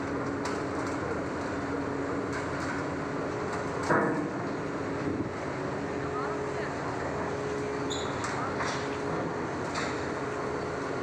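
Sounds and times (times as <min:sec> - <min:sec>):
diesel machinery running: 0:00.0 - 0:11.0.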